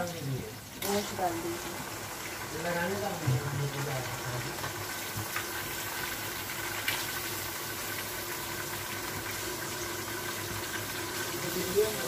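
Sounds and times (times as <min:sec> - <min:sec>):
onions frying hiss: 0:00.0 - 0:12.0.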